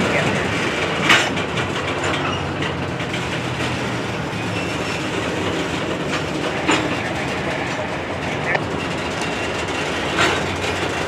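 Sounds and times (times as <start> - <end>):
freight train wheels rumbling: 0.0 - 11.0
wheels clicking over rail joint: 0.0 - 11.0.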